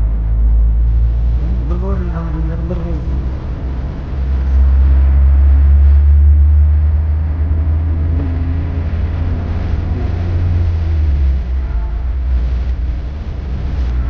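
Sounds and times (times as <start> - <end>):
car rumble with road noise: 0.0 - 14.0.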